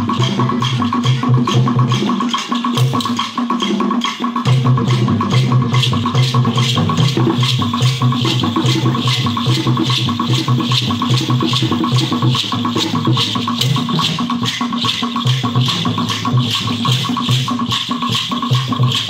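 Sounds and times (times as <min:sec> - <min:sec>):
pitched drums playing a quick beat: 0:00.0 - 0:19.0
rattles shaking: 0:00.0 - 0:19.0.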